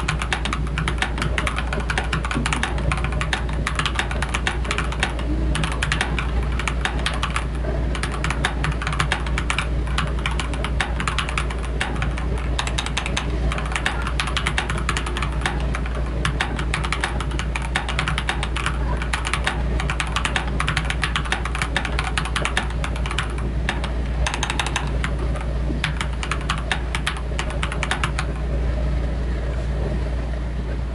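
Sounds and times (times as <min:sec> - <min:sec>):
mechanical keyboard typing: 0:00.0 - 0:28.4
low hum: 0:00.0 - 0:30.9.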